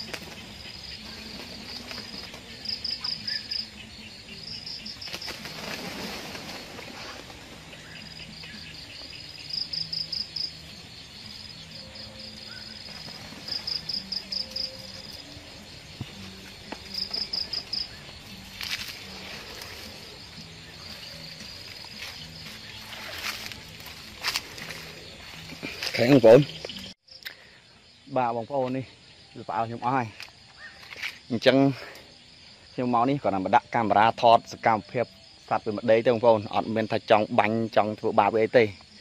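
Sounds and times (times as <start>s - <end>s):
insect chirping trills: 0.0s - 39.0s.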